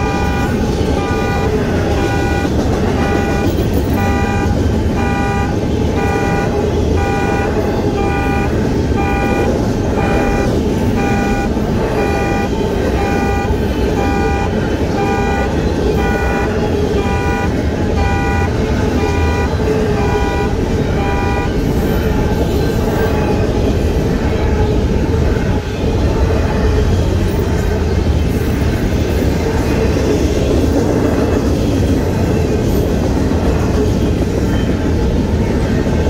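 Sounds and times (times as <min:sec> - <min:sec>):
crossing warning bell ringing: 0:00.0 - 0:36.0
freight train rumbling past: 0:00.0 - 0:36.0.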